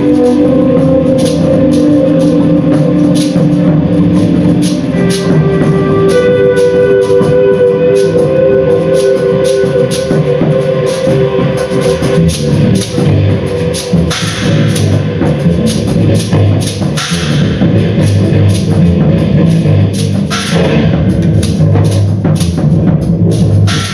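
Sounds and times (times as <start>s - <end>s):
drumming and cymbal hits: 0.0s - 23.9s
live band music: 0.0s - 23.9s.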